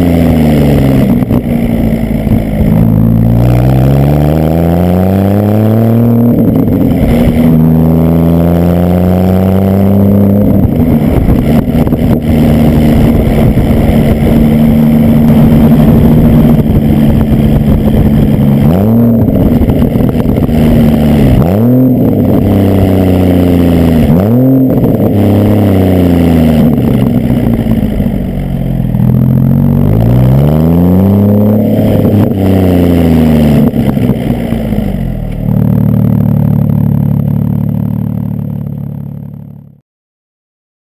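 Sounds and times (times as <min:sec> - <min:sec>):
car engine revving: 0:00.0 - 0:39.8.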